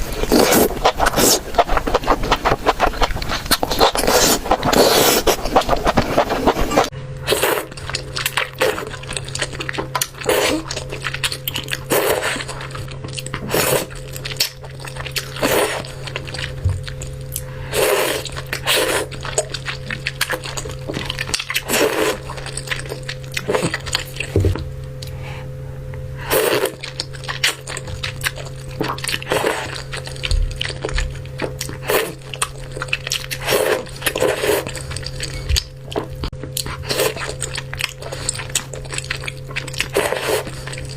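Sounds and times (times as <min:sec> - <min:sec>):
noodles being chewed: 0:00.0 - 0:25.1, 0:26.2 - 0:40.9
steady low hum: 0:00.0 - 0:40.9.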